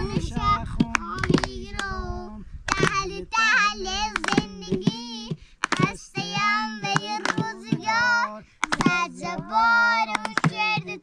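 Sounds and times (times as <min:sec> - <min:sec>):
high voice singing: 0:00.0 - 0:11.0.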